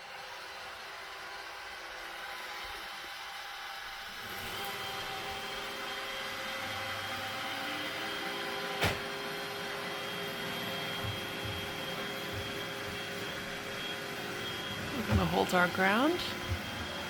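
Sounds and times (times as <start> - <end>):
robot vacuum whirring: 0.2 - 17.0.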